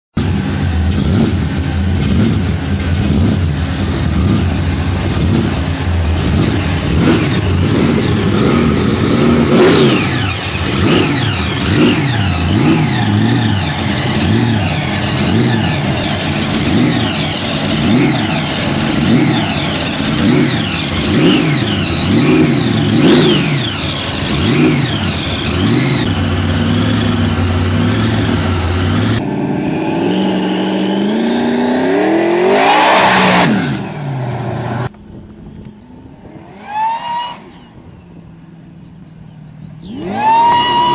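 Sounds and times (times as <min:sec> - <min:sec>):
car engine idling and revving: 0:00.1 - 0:40.9.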